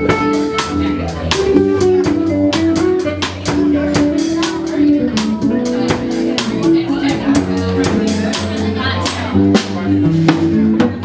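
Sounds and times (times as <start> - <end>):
drum kit steady beat: 0.0 - 11.0
guitar notes: 0.0 - 11.0.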